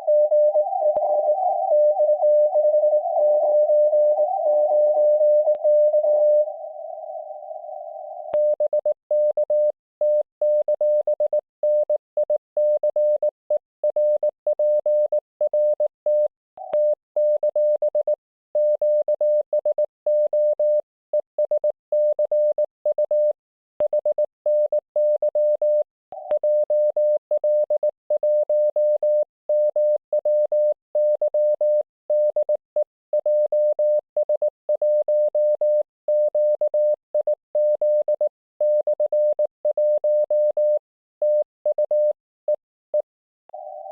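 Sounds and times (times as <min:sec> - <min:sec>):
morse code beeps: 0:00.0 - 0:06.5, 0:08.3 - 0:20.8, 0:21.4 - 0:43.9.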